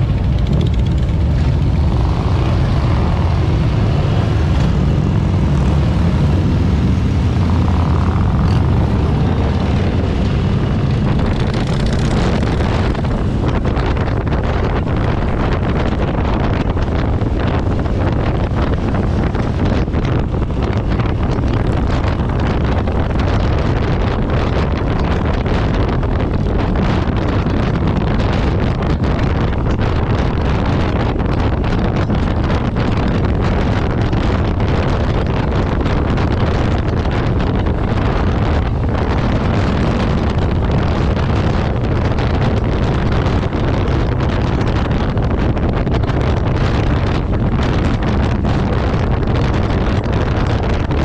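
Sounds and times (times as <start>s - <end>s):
motorcycle engines rumbling: 0.0s - 51.0s
wind buffeting microphone: 0.0s - 51.0s.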